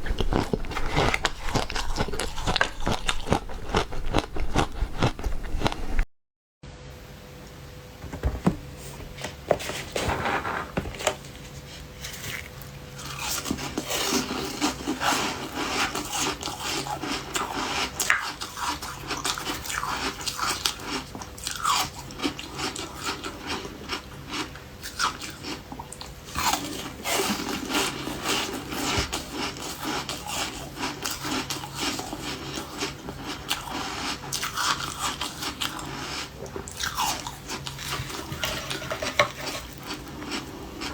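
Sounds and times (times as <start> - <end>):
ice being chewed: 0.0 - 6.0, 12.0 - 40.9.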